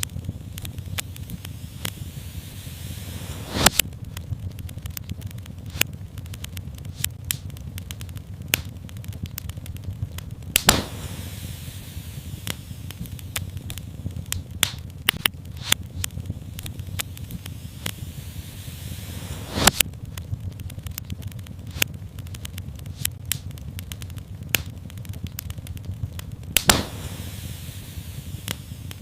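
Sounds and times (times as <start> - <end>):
fire crackling and popping: 0.0 - 29.0
low rumble: 0.0 - 29.0
soft steady hiss: 0.0 - 29.0.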